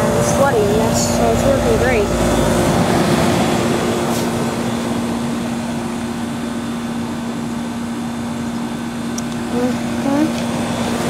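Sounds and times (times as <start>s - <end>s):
compressor humming: 0.0s - 11.0s
condenser fan air noise: 0.0s - 11.0s.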